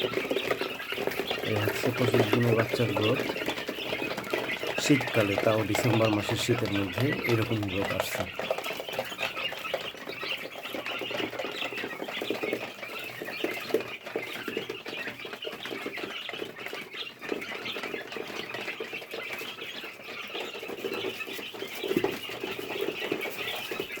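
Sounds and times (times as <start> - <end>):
chicks cheeping: 0.0 - 24.0.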